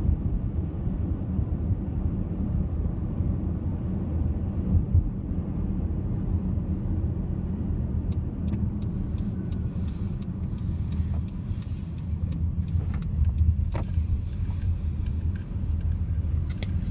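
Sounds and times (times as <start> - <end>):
car engine and tyre rumble: 0.0 - 16.9.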